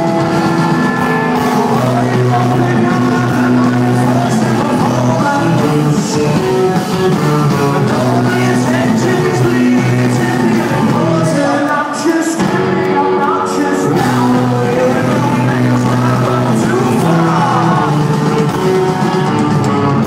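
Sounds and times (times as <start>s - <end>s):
drums: 0.0s - 20.0s
electric guitars: 0.0s - 20.0s
person singing: 0.0s - 20.0s.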